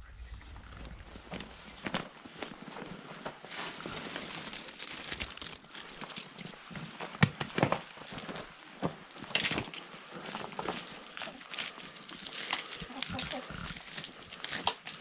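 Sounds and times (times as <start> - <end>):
dried corn ears rustling: 0.1 - 15.0.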